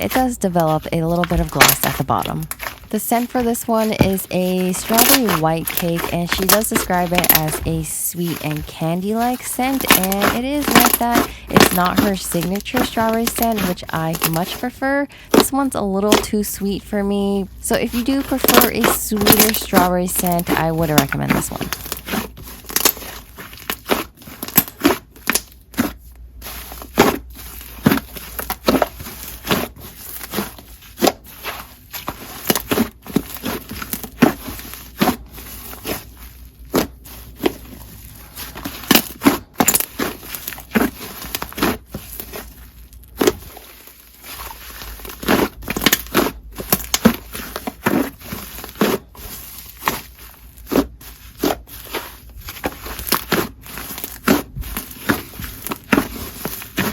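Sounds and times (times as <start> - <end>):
hands squishing slime: 0.0 - 16.6, 17.6 - 56.9.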